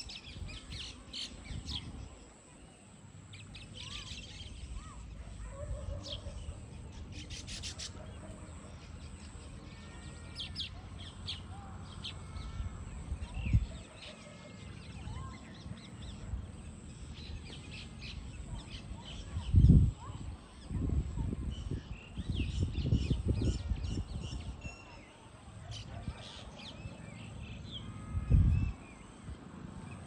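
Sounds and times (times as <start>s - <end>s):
birds chirping and chattering: 0.0s - 30.0s.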